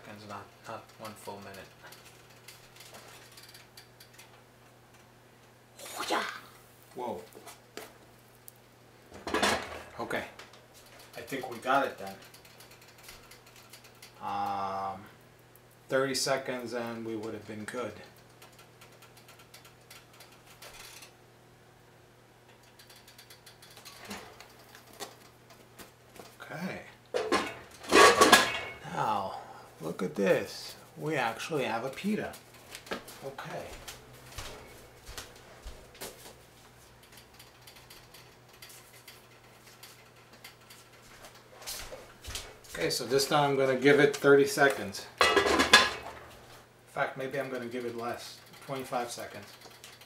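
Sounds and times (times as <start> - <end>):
pot ticking and crackling: 0.0 - 9.2, 9.9 - 34.0, 36.0 - 50.0
low steady hum: 0.0 - 41.4.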